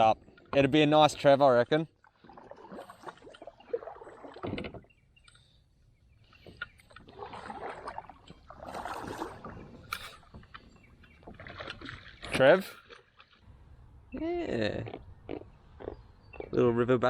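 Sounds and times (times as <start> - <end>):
water sloshing around kayak: 0.0 - 13.9.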